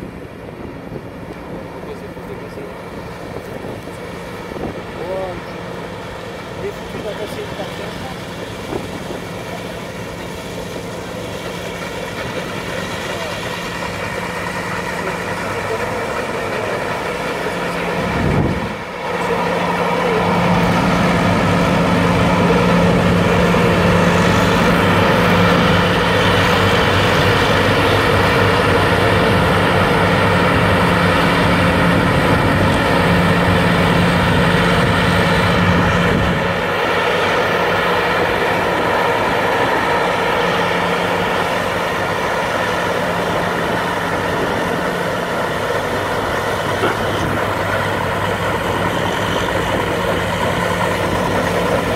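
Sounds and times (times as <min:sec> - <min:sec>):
engine running with fan: 0:00.0 - 0:51.9.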